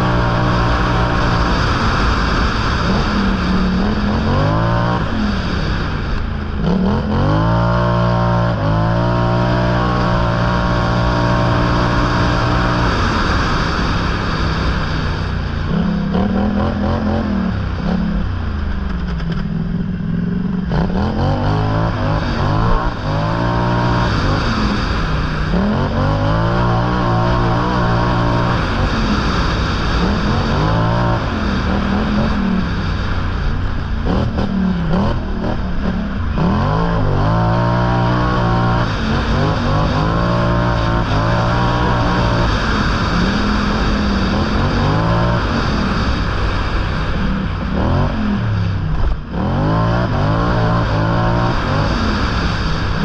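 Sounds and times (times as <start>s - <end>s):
off-road vehicle engine revving: 0.0s - 53.0s.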